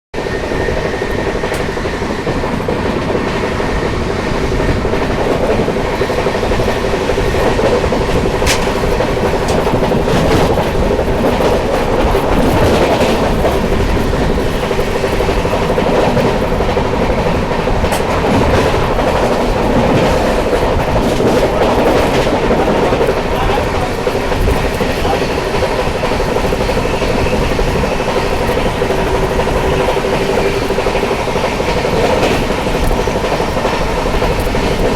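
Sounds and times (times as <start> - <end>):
train wheels rumbling on rail: 0.1 - 34.9.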